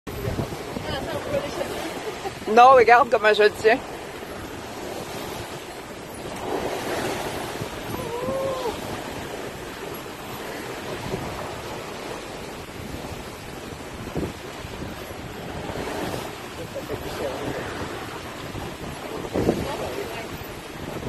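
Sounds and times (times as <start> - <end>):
water rushing along hull: 0.1 - 21.0
wind buffeting microphone: 0.1 - 21.0.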